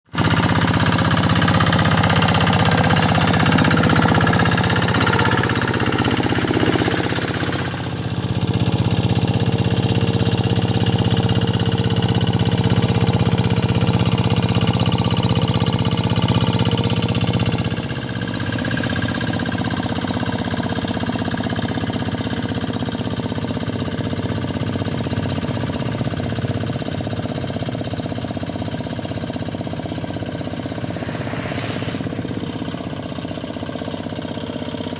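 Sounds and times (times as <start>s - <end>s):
tractor diesel engine knocking: 0.1s - 30.6s, 33.0s - 34.9s.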